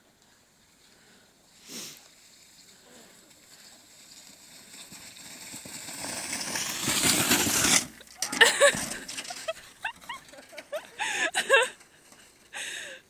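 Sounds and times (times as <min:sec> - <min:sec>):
sled scraping over snow: 0:01.5 - 0:12.9.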